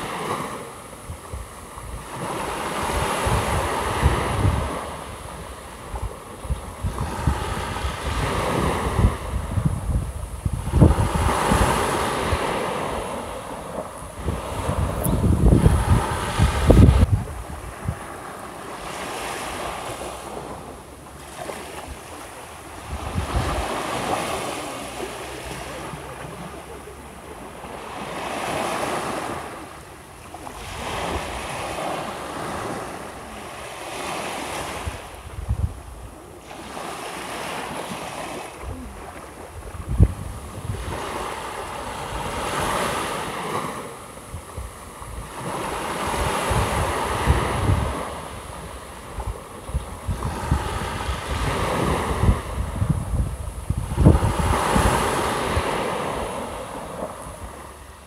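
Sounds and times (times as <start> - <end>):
wind buffeting microphone: 0.0 - 26.4, 27.8 - 57.9
waves washing up sandy beach: 0.0 - 58.0.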